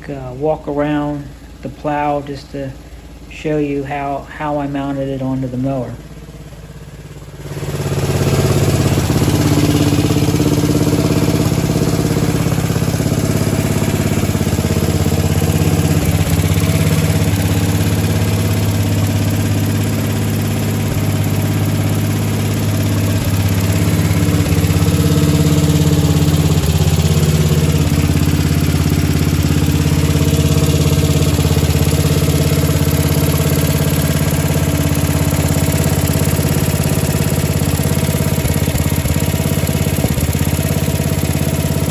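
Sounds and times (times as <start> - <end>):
mower engine idling: 0.0 - 41.9.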